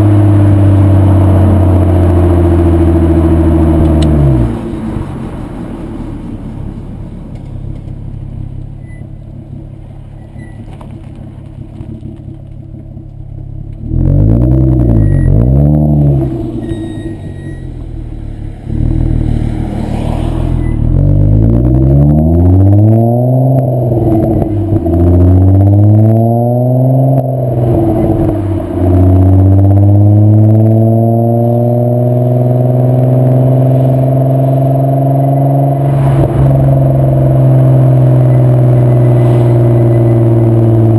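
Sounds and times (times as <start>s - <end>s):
car engine revving: 0.0s - 8.6s, 10.8s - 40.9s.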